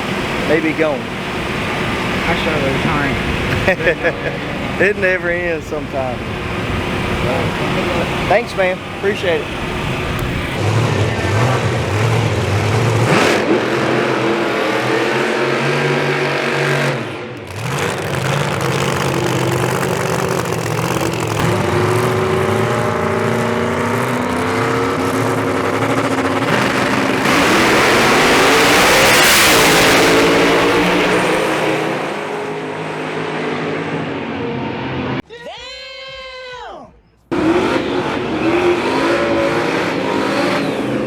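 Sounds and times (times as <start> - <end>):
race car engines revving: 0.0 - 35.2, 37.3 - 41.0.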